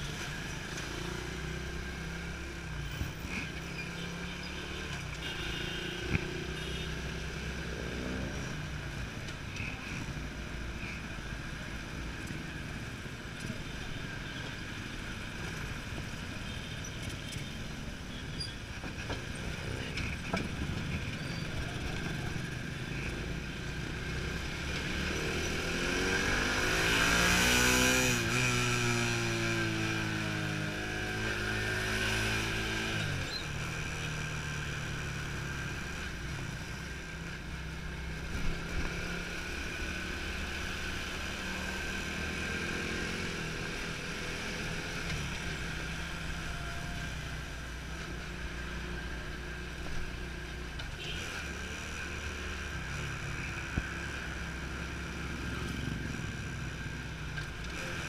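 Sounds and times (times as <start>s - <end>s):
traffic engines: 0.0s - 58.0s.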